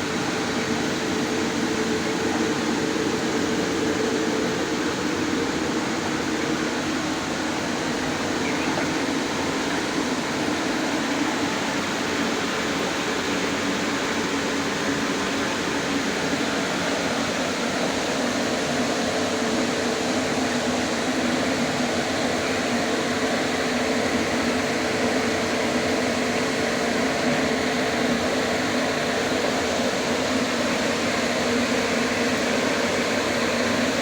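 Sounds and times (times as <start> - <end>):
fan running: 0.0 - 34.0.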